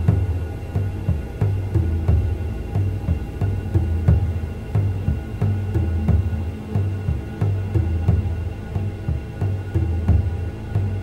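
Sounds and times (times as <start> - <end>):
faint steady drone: 0.0 - 11.0
hypnotic drum music: 0.0 - 11.0.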